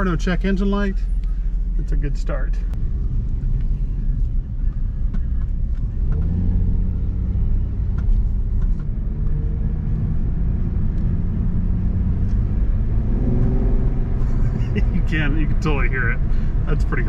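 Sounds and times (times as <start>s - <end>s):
car engine at low speed: 0.0s - 17.0s.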